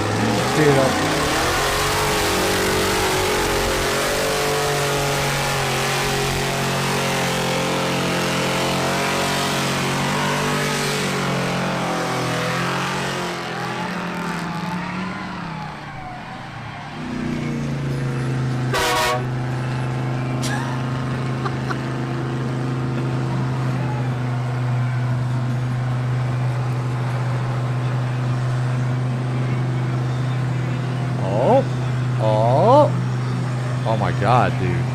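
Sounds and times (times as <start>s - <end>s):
truck engines running hard: 0.0s - 34.9s.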